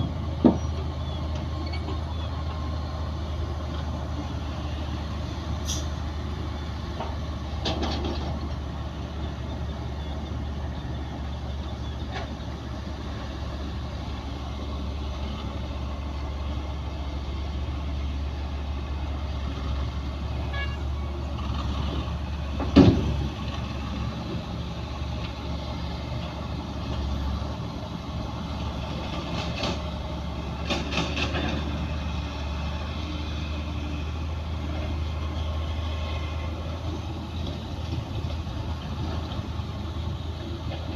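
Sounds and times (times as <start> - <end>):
diesel machinery droning: 0.0 - 40.9.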